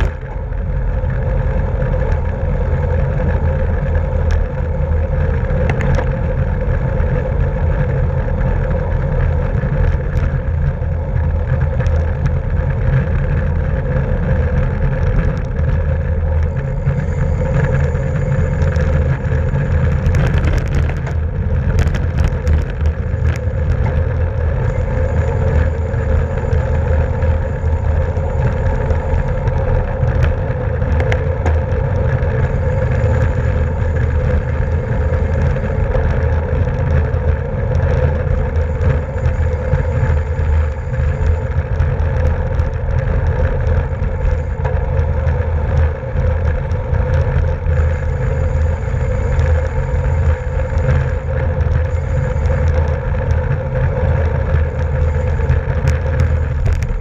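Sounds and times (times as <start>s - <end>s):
sharp bike clicks: 0.0s - 57.0s
wind rumble on microphone: 0.0s - 57.0s.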